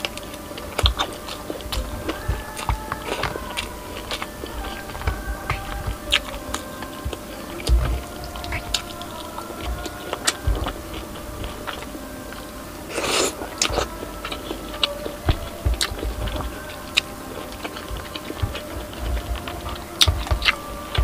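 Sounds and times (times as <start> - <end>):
crispy food crunching: 0.0 - 21.0
person chewing: 0.0 - 21.0.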